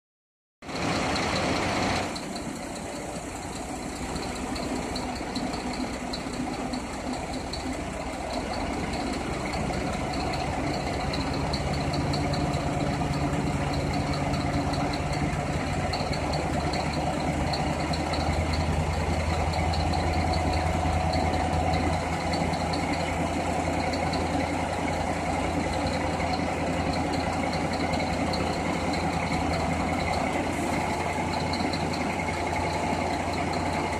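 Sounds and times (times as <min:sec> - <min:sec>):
diesel truck engine running: 0:00.6 - 0:33.9.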